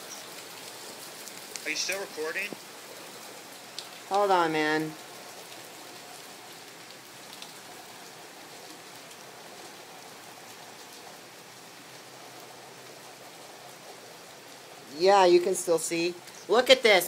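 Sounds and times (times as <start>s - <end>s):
heavy rain falling: 0.0s - 17.0s
raindrop ticks: 0.0s - 17.0s.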